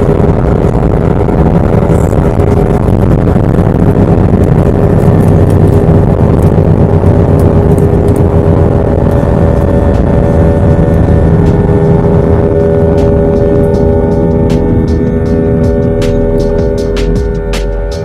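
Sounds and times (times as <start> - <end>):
jet engines roaring in cabin: 0.0 - 18.0.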